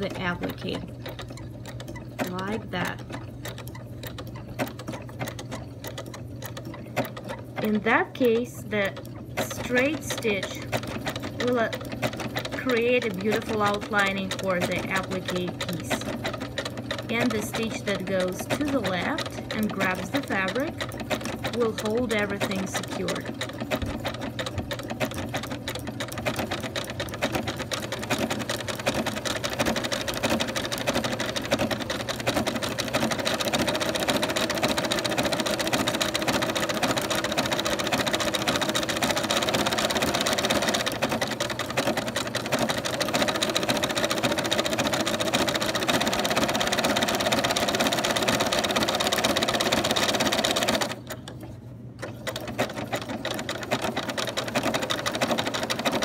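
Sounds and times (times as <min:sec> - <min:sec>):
sewing machine stitching: 0:00.0 - 0:56.0.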